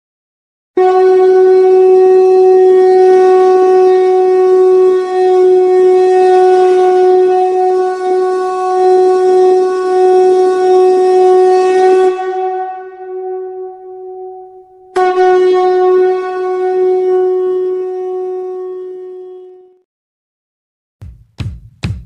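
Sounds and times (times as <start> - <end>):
long reedy wind instrument note: 0.8 - 19.8.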